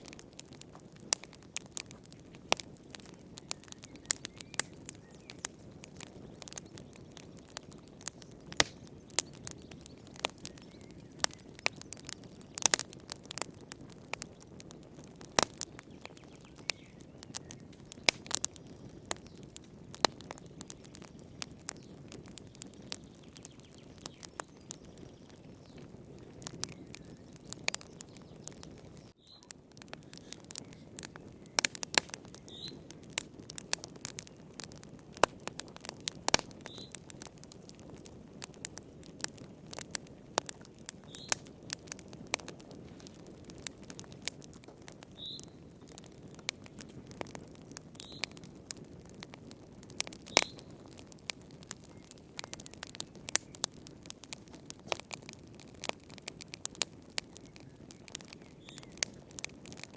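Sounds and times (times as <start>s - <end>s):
low rustle of flames: 0.0s - 59.9s
wood fire crackling and popping: 0.0s - 59.9s.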